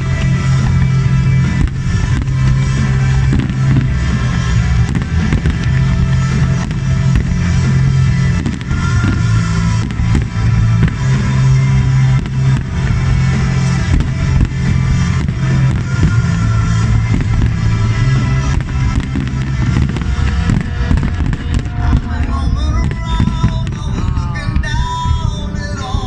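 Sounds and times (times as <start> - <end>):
firework bangs: 0.0 - 25.4
loud music with heavy bass: 0.0 - 26.0.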